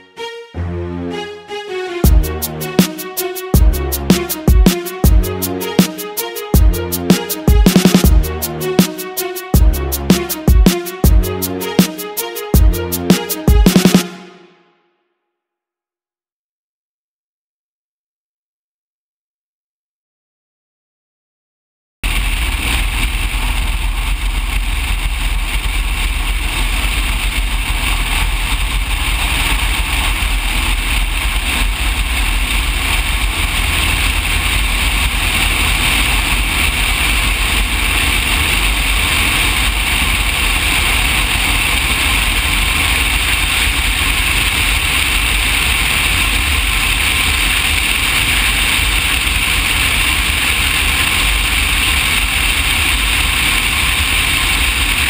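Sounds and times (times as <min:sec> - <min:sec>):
propeller plane engine running: 0:01.1 - 0:14.3, 0:22.0 - 0:55.0.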